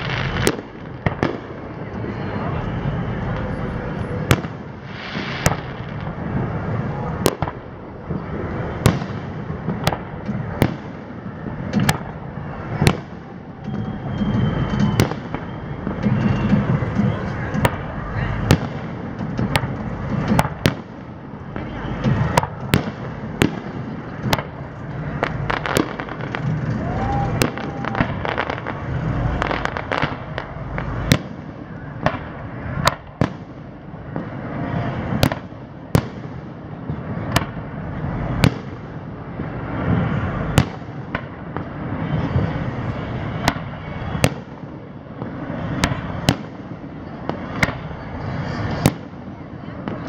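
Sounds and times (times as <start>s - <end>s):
fireworks bursting: 0.0s - 50.0s
steady background noise: 0.0s - 50.0s.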